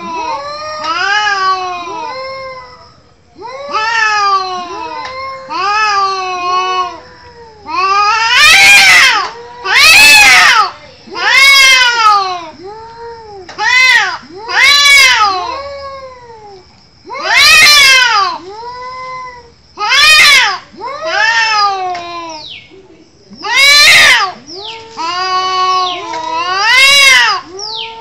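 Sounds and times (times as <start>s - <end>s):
cats yowling: 0.0s - 28.0s.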